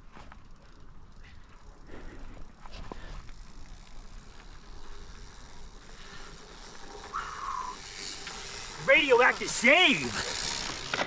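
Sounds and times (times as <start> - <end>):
bike rattling clicks and knocks: 0.0 - 11.0
bike tyres on stones: 0.0 - 11.0.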